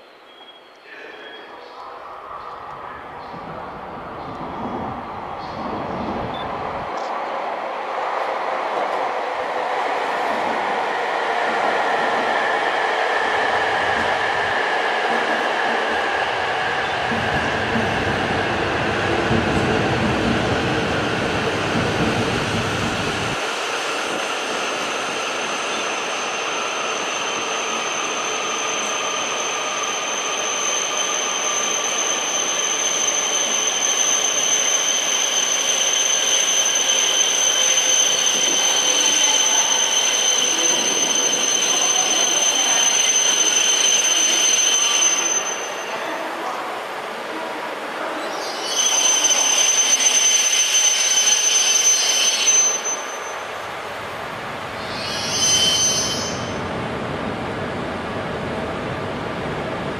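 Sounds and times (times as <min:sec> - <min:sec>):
train running noise: 0:01.1 - 0:59.9.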